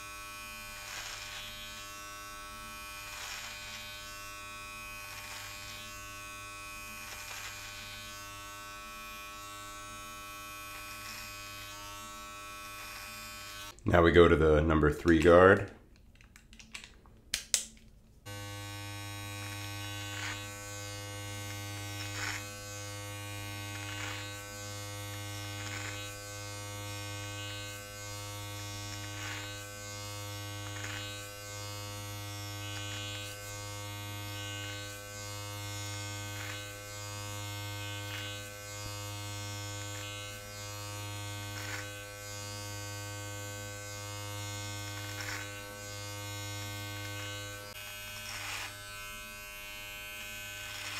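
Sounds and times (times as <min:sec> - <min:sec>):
electric trimmer humming: 0:00.0 - 0:13.8, 0:18.2 - 0:50.9.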